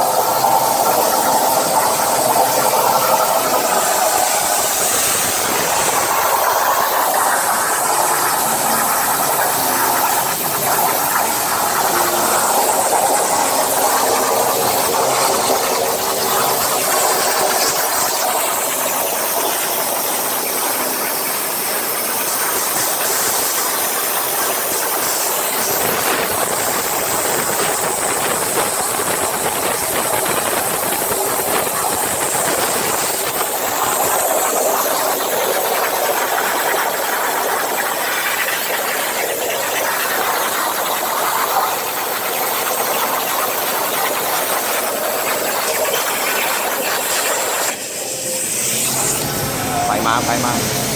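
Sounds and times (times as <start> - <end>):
plasma torch cutting steel: 0.0 - 50.9.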